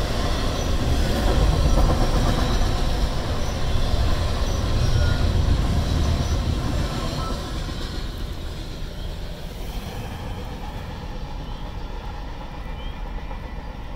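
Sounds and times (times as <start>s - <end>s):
freight train rumbling on rails: 0.0s - 13.9s.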